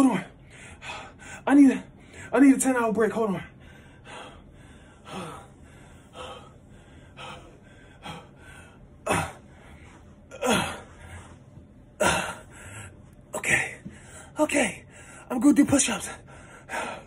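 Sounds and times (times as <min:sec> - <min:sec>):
man breathing heavily: 0:00.0 - 0:02.4, 0:03.5 - 0:15.3, 0:16.1 - 0:17.0.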